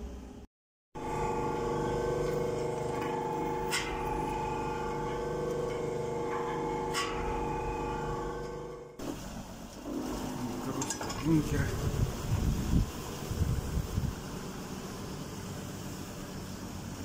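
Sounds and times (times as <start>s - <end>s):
agitator motor humming: 1.0s - 17.0s.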